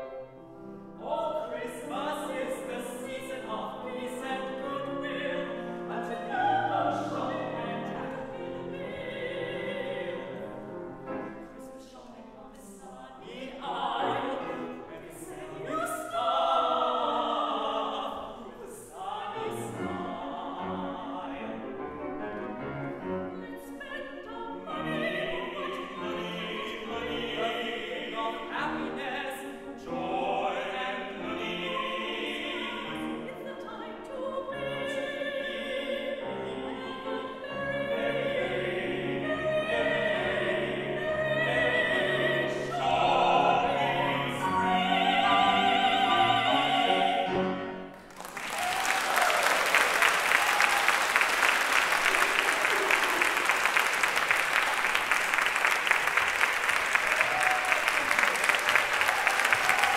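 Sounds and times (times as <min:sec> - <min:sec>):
grand piano accompaniment: 0:00.0 - 0:59.9
operatic singing: 0:00.0 - 0:59.9.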